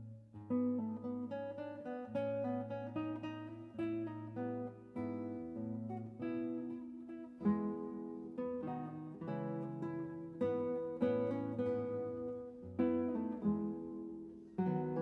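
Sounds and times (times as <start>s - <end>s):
solo acoustic guitar playing: 0.0s - 15.0s.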